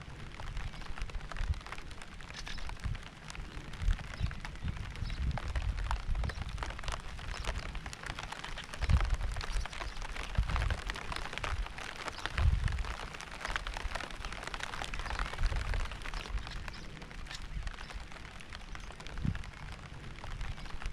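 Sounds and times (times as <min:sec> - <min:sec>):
raindrops ticking: 0:00.0 - 0:20.9
steady rain: 0:00.0 - 0:20.9.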